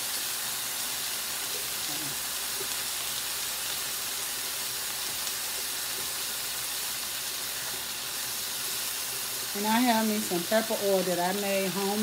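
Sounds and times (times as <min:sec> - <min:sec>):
food sizzling on electric grill: 0:00.0 - 0:12.0.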